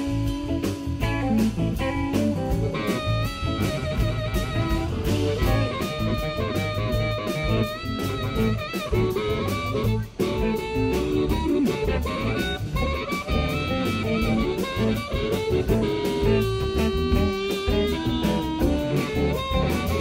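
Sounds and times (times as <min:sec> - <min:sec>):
amplified harmonica: 0:00.0 - 0:20.0
blues band playing: 0:00.0 - 0:20.0.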